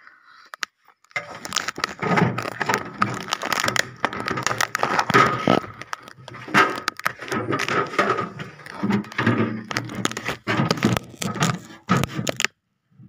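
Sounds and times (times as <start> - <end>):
plastic parts clicking and crackling: 0.0 - 12.6.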